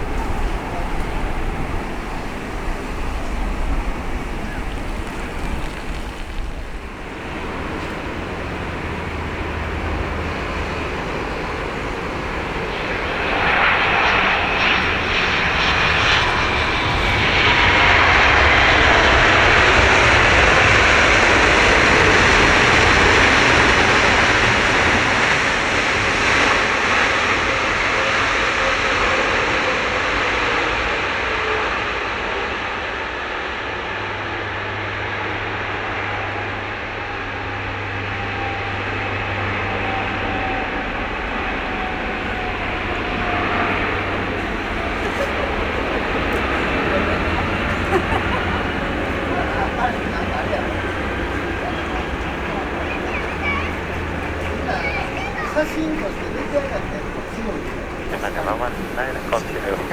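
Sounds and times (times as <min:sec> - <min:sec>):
jet airliner landing: 0:00.0 - 0:59.9.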